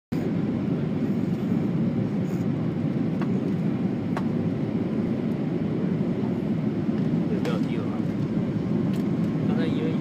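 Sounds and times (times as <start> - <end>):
airplane cabin rumble: 0.1 - 10.0.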